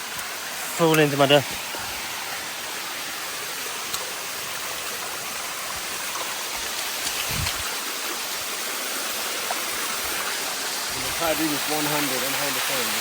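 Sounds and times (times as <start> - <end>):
waterfall rushing over rock: 0.0 - 13.0.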